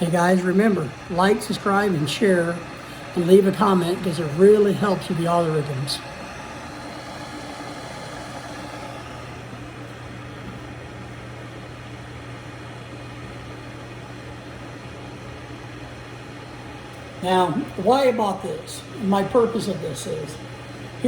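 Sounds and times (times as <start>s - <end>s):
electric kettle hissing and humming: 0.0s - 21.0s.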